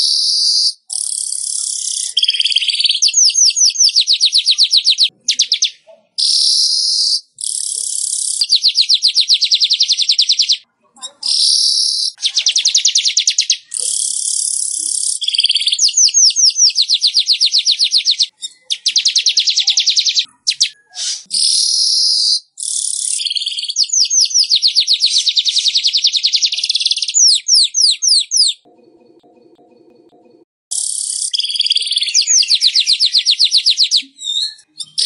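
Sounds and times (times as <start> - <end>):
bird buzzing chatter song: 0.0 - 10.6, 11.3 - 29.9, 30.7 - 34.4.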